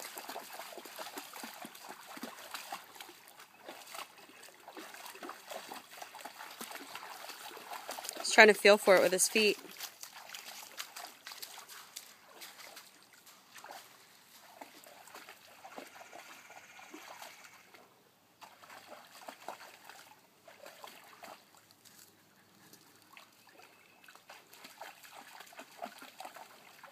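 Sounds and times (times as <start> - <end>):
dog splashing in water: 0.0 - 17.8, 18.4 - 26.9
stream trickling: 0.0 - 26.9.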